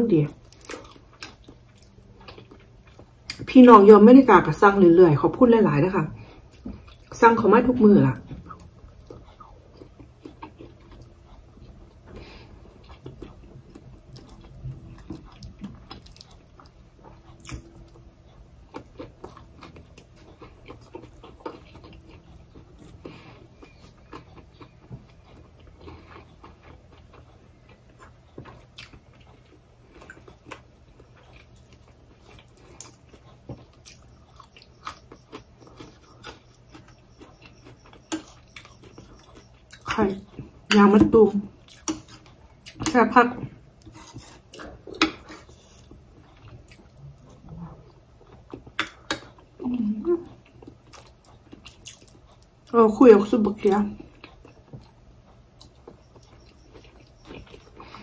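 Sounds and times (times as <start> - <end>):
person chewing: 0.4 - 3.5, 6.2 - 7.2, 8.2 - 40.7, 41.5 - 42.9, 43.5 - 52.7, 54.0 - 58.0.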